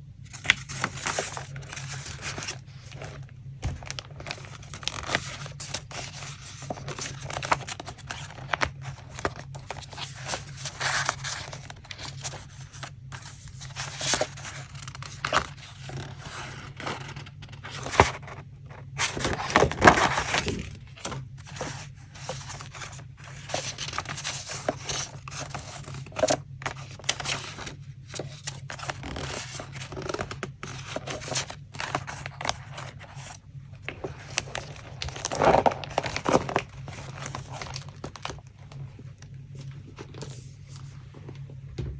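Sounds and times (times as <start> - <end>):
paper rustling and tearing: 0.3 - 38.5.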